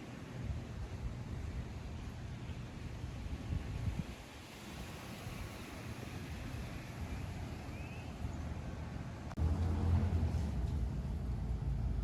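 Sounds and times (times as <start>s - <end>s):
wind rumbling on microphone: 0.3s - 12.0s.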